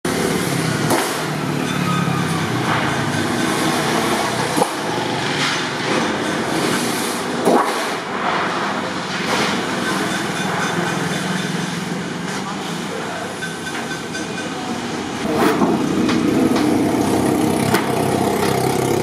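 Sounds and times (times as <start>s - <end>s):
motorbikes and vehicles passing: 0.1s - 19.0s.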